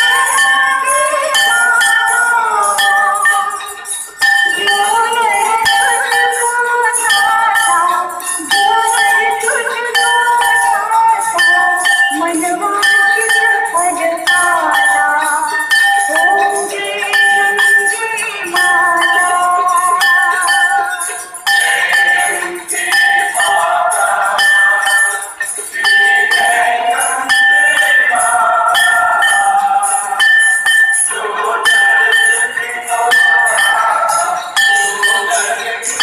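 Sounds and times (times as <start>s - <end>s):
bells jingling and ringing: 0.0s - 36.0s
devotional singing: 0.0s - 36.0s.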